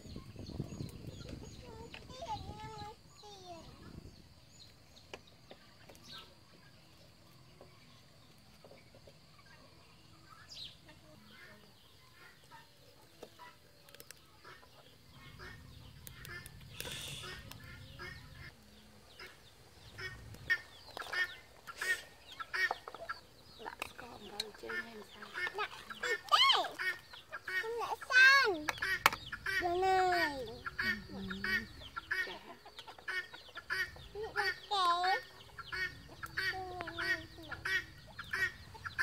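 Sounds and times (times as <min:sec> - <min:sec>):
chickens clucking: 0:00.1 - 0:39.0.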